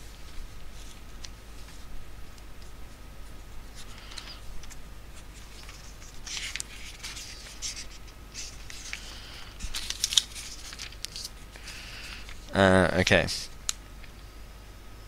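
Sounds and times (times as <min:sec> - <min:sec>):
book pages rustling: 0:00.1 - 0:12.5.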